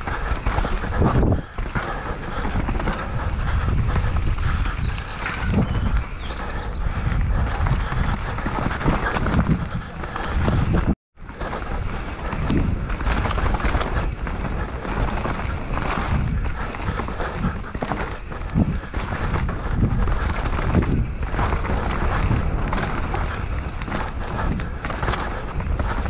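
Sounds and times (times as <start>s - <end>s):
bike tyres rattling over roots: 0.0s - 26.0s
wind rushing over microphone: 0.0s - 26.0s.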